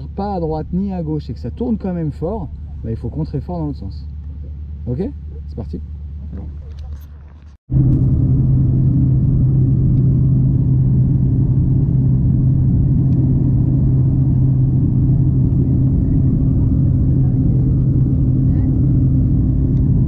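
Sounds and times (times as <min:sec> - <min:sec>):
plane engine droning: 0:00.0 - 0:20.0.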